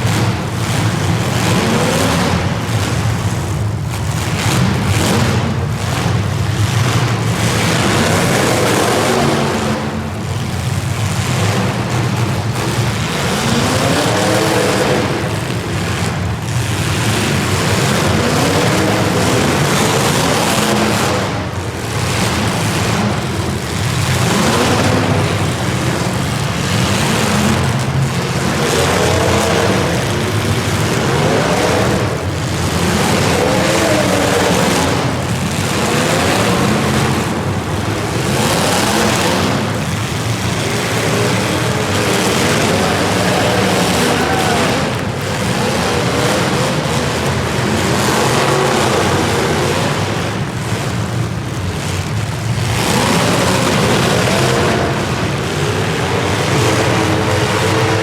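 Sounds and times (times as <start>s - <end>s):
racing engines revving: 0.0s - 58.0s.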